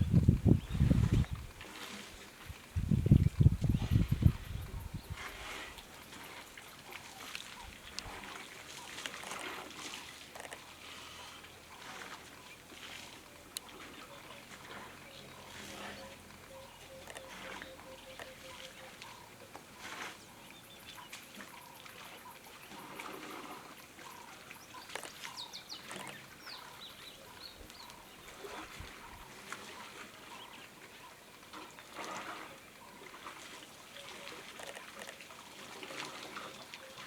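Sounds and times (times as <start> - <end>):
water trickling and splashing: 0.0 - 37.0.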